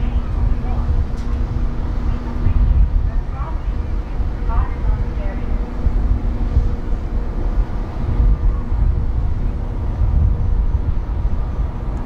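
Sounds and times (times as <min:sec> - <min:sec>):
low machinery hum: 0:00.0 - 0:12.0
wind buffeting microphone: 0:00.0 - 0:12.0.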